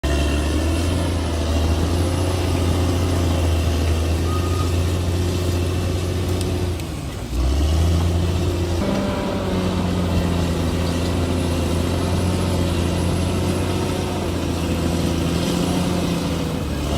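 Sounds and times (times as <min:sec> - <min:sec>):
bulldozer diesel engine: 0:00.0 - 0:16.9.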